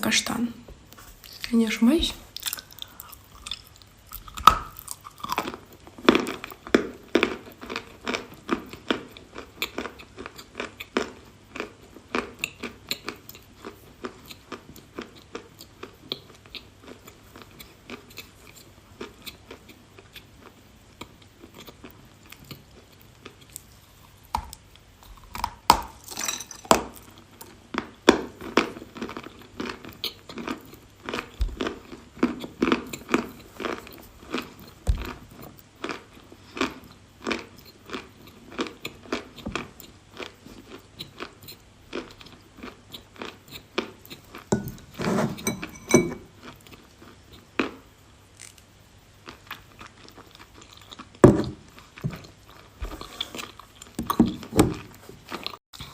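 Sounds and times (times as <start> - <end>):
crunching and chewing: 2.2 - 45.0, 46.2 - 55.9.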